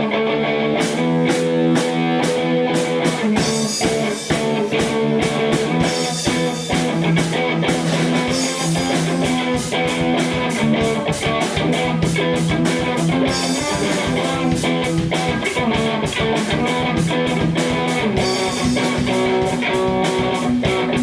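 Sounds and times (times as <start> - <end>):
guitar chords: 0.0 - 21.0
drum kit beat: 0.5 - 21.0.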